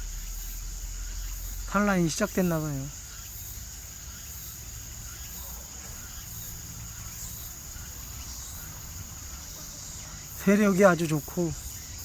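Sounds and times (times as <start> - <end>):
honeybees humming: 0.0 - 12.0
insects chirring: 0.0 - 12.0.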